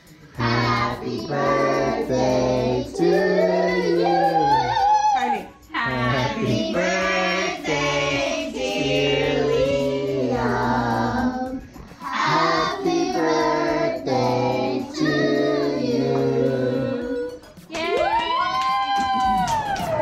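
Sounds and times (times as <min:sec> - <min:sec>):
voices singing together: 0:00.0 - 0:17.7.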